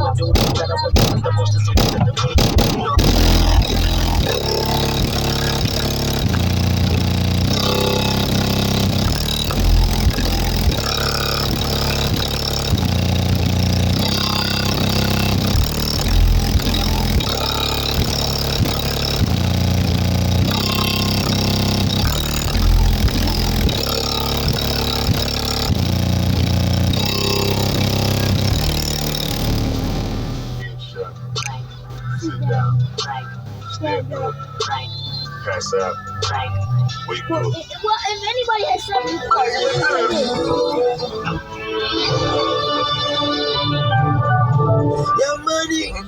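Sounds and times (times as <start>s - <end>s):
bass-heavy music through car speakers: 0.0s - 42.7s, 43.4s - 46.0s.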